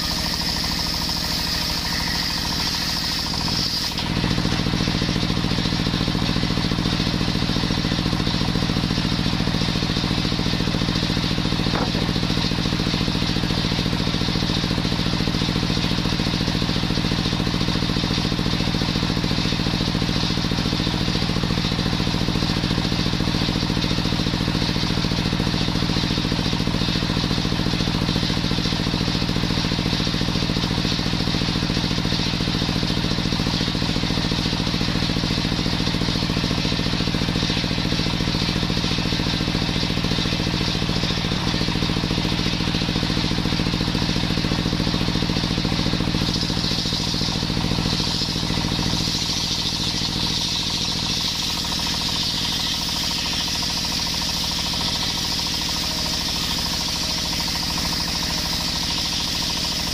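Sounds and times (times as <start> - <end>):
circular saw blade spinning: 0.0 - 59.9
stationary engine running: 0.0 - 59.9.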